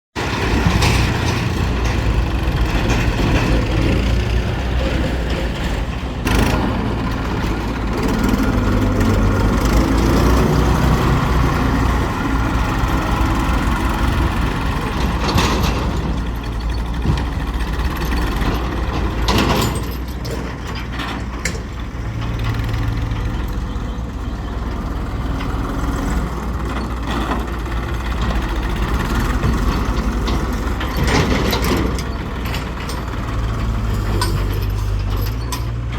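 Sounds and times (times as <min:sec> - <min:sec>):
diesel engine rumbling: 0:00.2 - 0:35.9.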